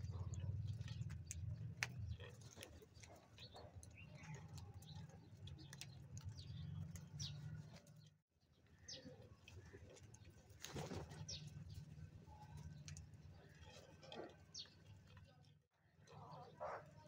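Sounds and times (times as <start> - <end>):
crows' beaks pecking grain: 0.0 - 8.1, 8.7 - 15.4.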